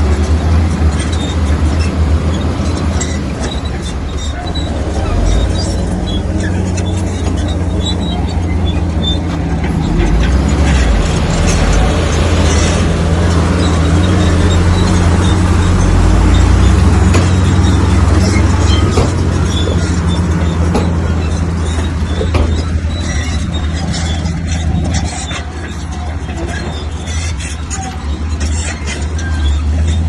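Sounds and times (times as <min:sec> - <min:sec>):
diesel machinery engine drone: 0:00.0 - 0:30.0
metal knocks and clanks: 0:00.0 - 0:30.0.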